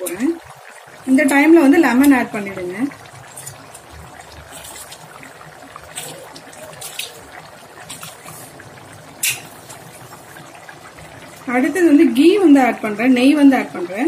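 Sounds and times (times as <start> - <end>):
rice boiling in pot: 0.0 - 14.0.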